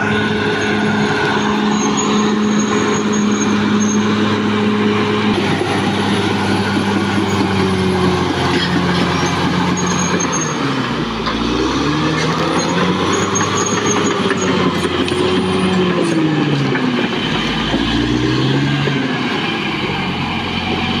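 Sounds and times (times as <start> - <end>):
bulldozer diesel engine working: 0.0 - 21.0.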